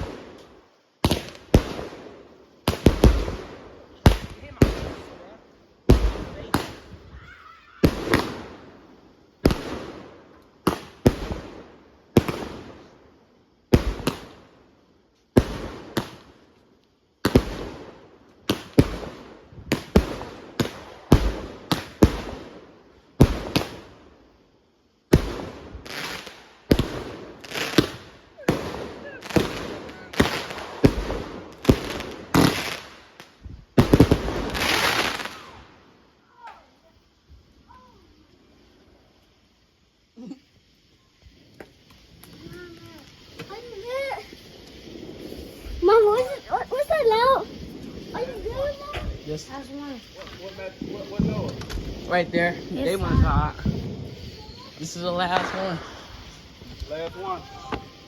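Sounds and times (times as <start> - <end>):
fireworks bangs: 0.0 - 16.6, 17.2 - 24.4, 25.0 - 39.7, 40.6 - 58.0
crackling fireworks bangs: 0.0 - 58.0.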